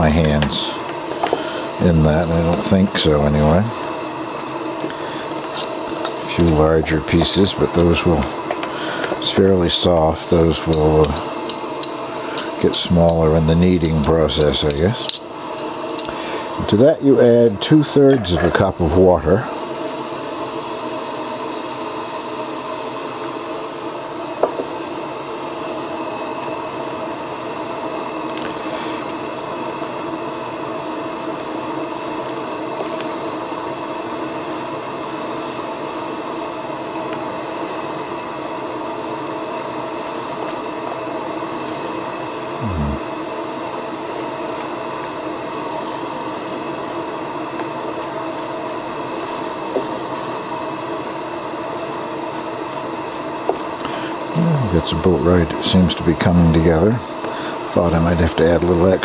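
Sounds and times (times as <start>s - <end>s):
steady hiss and hum: 0.0s - 59.0s.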